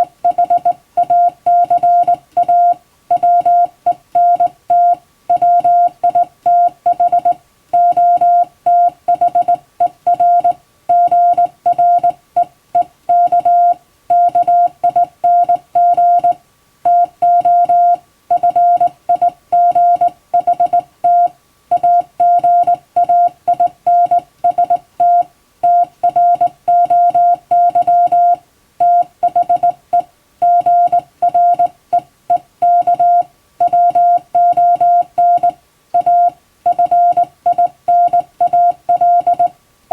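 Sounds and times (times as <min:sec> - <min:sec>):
morse code tone: 0:00.0 - 0:12.2, 0:12.8 - 0:39.5.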